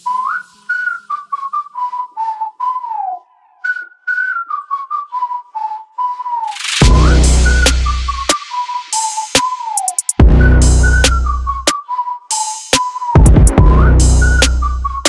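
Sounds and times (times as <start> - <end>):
whistled melody: 0.0 - 15.0.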